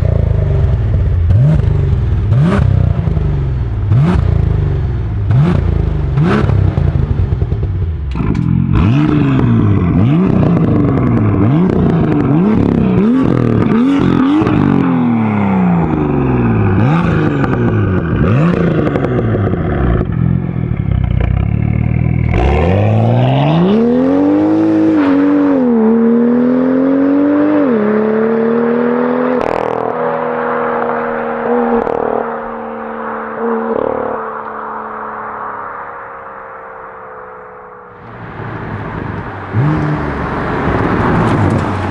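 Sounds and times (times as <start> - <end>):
car engine revving through exhaust: 0.0 - 35.4, 37.9 - 41.9.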